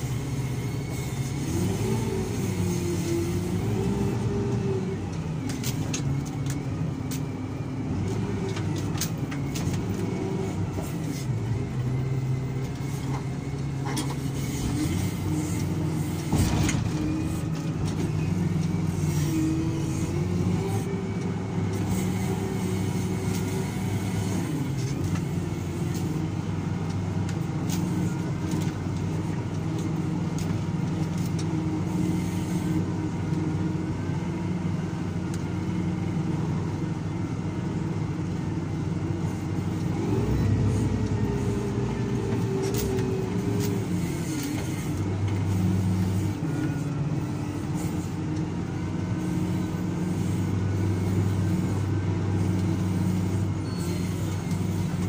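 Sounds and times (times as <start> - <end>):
loader diesel engine running: 0.0 - 55.0.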